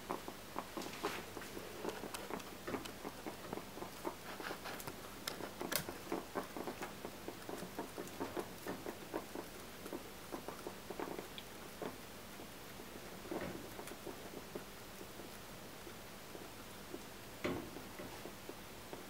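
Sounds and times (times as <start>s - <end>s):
guinea pig crunching hay: 0.0s - 19.0s.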